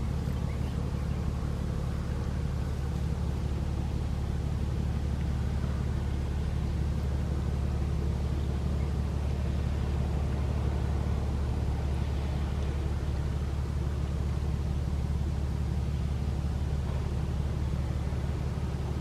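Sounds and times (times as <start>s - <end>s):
low rumble of surf: 0.0s - 19.0s.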